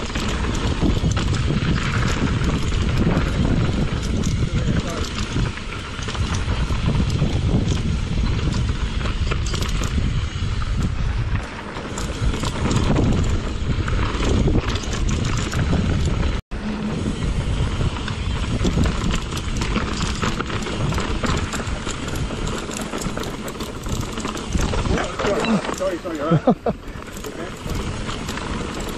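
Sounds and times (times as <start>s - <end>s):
bike rattling: 0.0s - 28.9s
bike tyres crunching on dirt: 0.0s - 28.9s.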